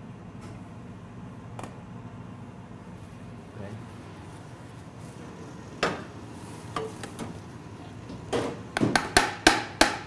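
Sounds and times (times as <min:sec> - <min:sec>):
kitchen background hum: 0:00.0 - 0:10.0.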